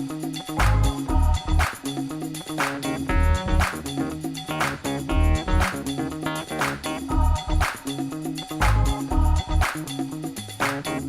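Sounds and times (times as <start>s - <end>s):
funk music with drums and bass: 0.0s - 11.0s.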